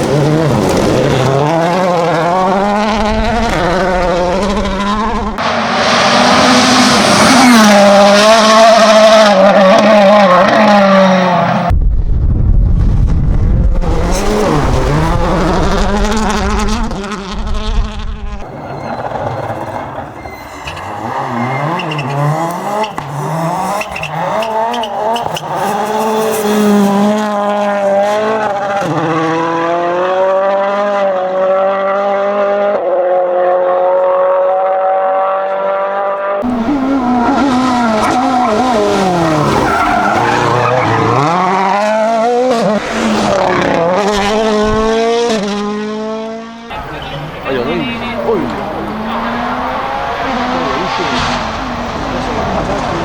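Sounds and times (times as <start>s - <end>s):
rally car engine revving: 0.0s - 11.7s, 12.9s - 53.0s.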